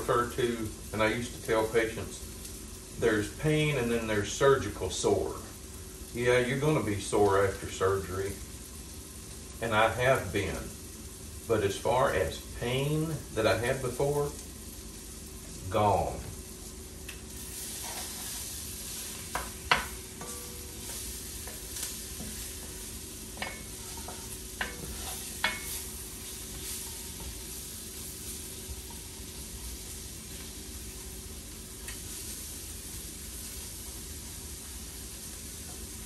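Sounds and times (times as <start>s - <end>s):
food sizzling in a pot: 0.0s - 36.0s.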